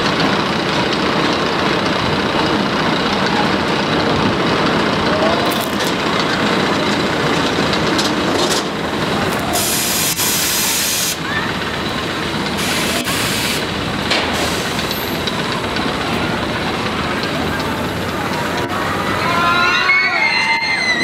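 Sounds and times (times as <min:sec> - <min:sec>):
roller coaster rumbling on track: 0:00.0 - 0:21.0.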